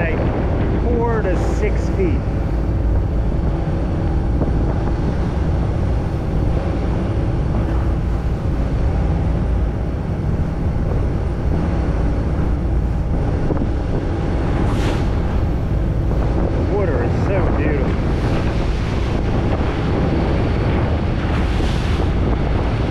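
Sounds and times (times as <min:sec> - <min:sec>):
boat engine running: 0:00.0 - 0:22.9
sea rushing along hull: 0:00.0 - 0:22.9
wind on microphone: 0:00.0 - 0:22.9.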